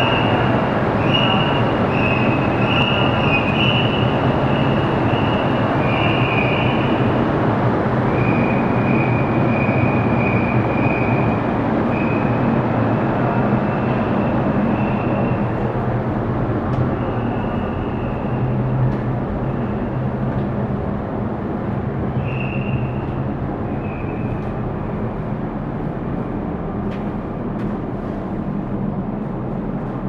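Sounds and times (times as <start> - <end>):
ferry machinery rumble: 0.0 - 30.0.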